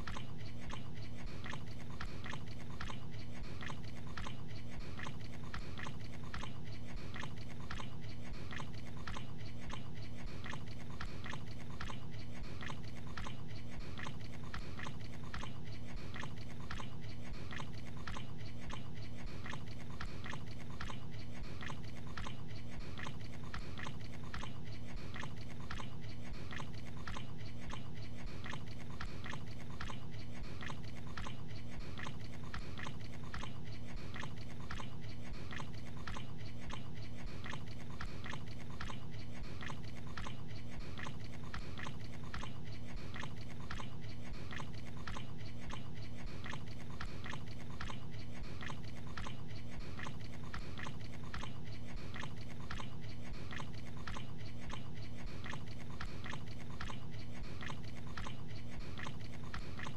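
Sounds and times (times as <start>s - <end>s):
man chewing food noisily: 0.0s - 59.9s.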